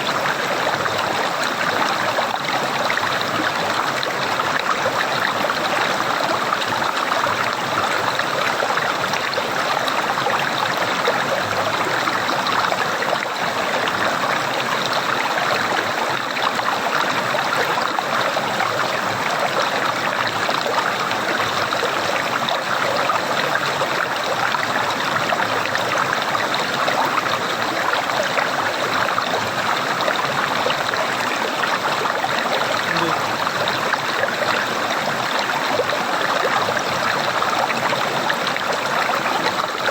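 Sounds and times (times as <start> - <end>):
running water gurgling: 0.0 - 39.9.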